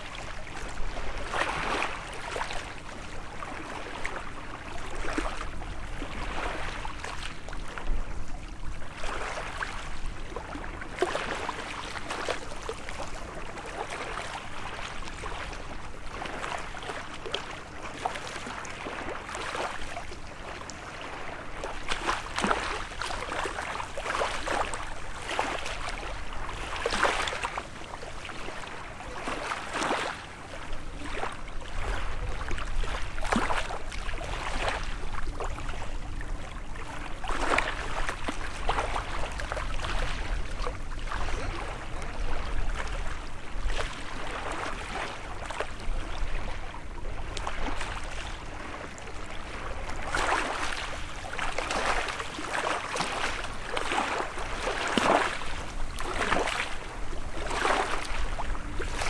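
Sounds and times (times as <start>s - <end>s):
small waves lapping at shore: 0.0s - 59.0s.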